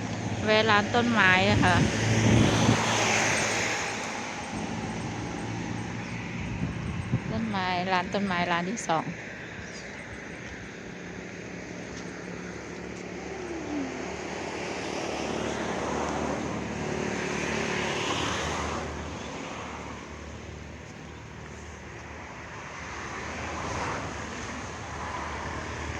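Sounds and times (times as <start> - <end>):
vehicle road and engine noise: 0.0 - 25.9.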